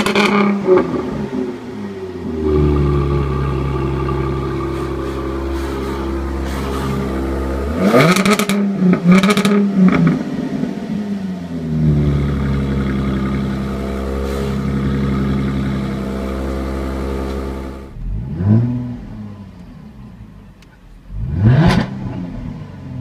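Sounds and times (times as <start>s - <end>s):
car engine idling: 0.0s - 21.3s
engine throttle blips: 0.0s - 22.5s.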